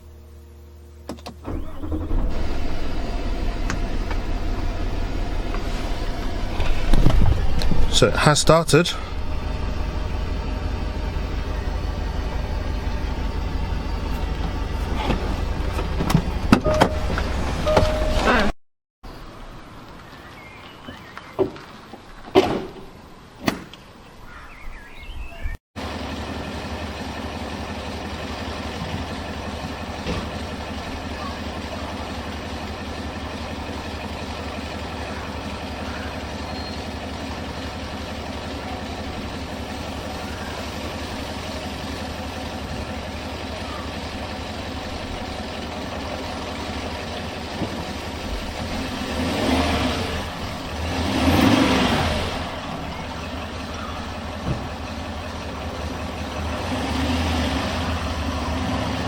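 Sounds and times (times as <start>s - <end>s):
diesel engine running: 0.0s - 18.6s, 25.8s - 59.0s.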